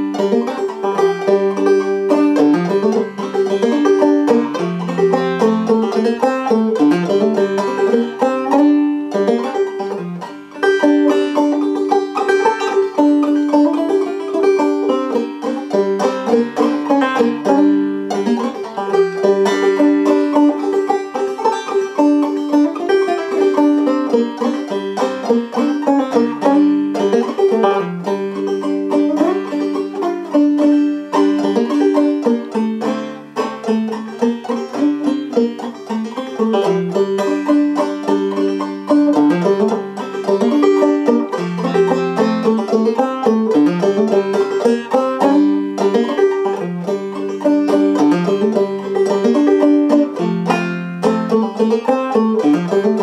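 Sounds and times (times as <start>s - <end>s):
banjo picking: 0.0s - 53.0s.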